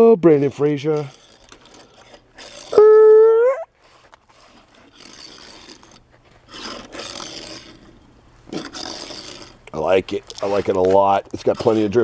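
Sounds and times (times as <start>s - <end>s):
toy car wheels scraping: 0.0s - 12.0s.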